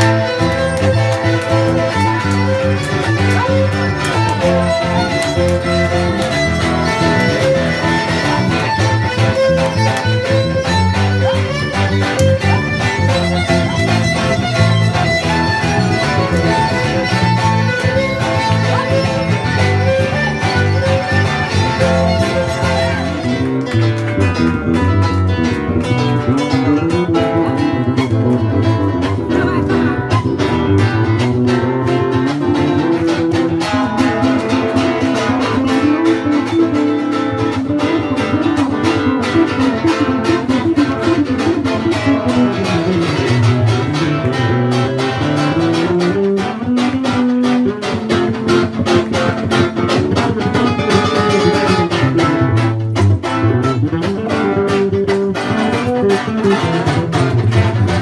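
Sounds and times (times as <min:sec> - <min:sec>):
guitar strumming music: 0:00.0 - 0:58.0.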